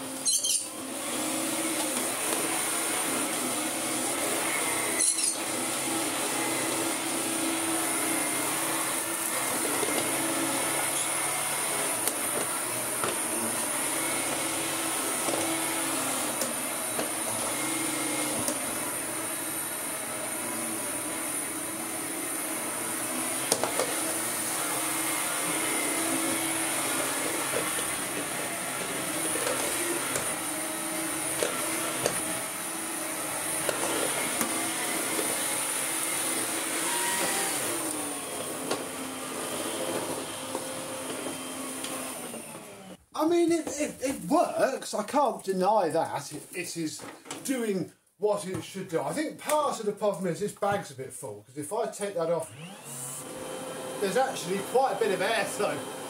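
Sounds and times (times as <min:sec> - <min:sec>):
vacuum cleaner whining: 0:00.0 - 0:44.7, 0:52.0 - 0:56.0.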